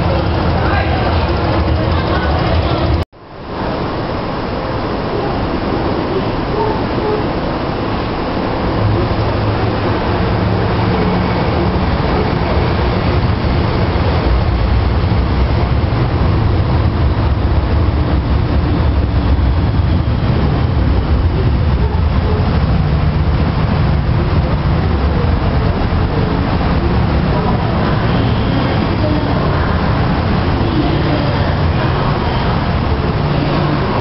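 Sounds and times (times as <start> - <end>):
train wheels and motors rumbling: 0.0 - 34.0.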